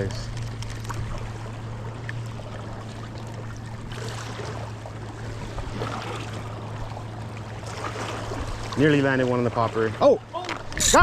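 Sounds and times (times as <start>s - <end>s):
low hum: 0.0s - 11.0s
water noise: 0.0s - 11.0s.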